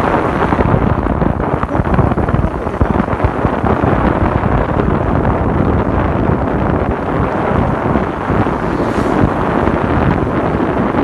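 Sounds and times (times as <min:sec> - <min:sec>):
vehicle travel noise: 0:00.0 - 0:11.0
wind buffeting microphone: 0:00.0 - 0:11.0.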